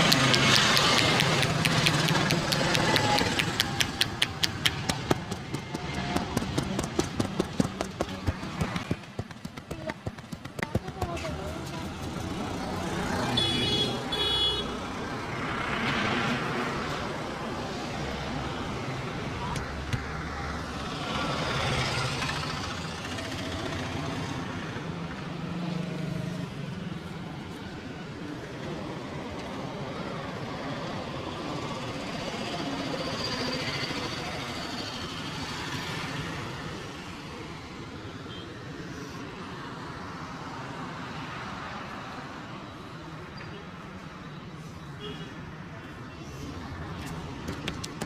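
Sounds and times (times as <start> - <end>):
passing traffic rumble and hiss: 0.0 - 48.0.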